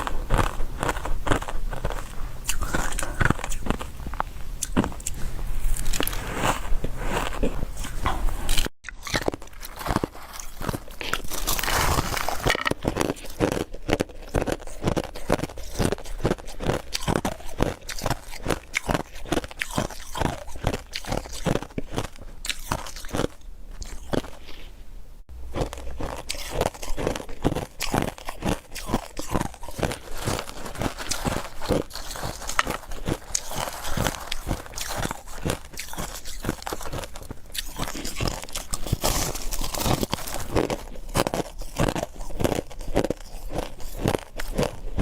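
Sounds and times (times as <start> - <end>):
chewing ice crunches: 0.0 - 24.5, 25.5 - 45.0.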